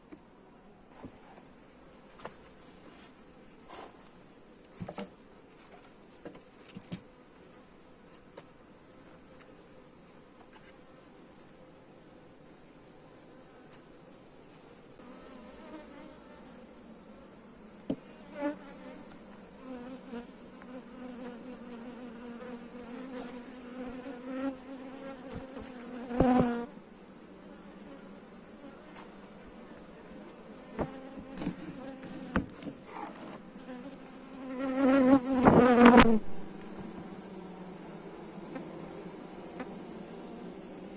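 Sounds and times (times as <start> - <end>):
honeybees buzzing: 6.7 - 40.9.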